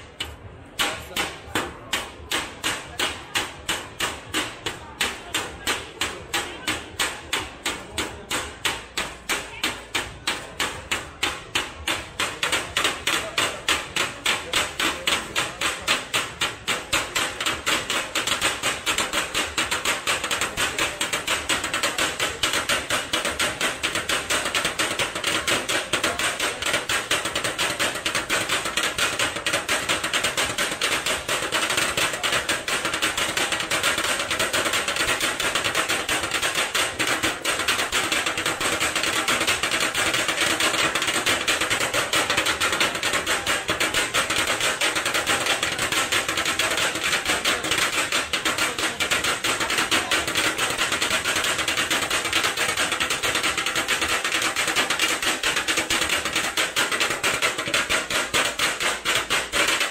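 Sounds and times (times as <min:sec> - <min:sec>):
steel blades chopping on griddle: 0:00.1 - 0:59.9.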